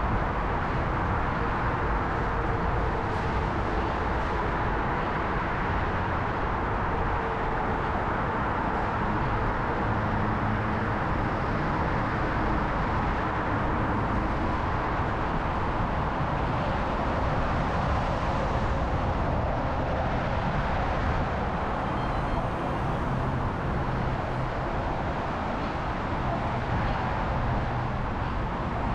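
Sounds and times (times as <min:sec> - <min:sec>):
city street traffic: 0:00.0 - 0:28.9
low engine hum: 0:00.0 - 0:28.9.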